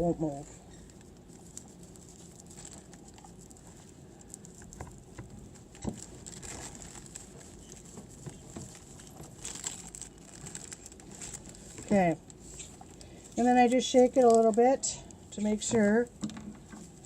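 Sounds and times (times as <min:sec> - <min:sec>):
rustling of stuffing: 0:00.0 - 0:17.0.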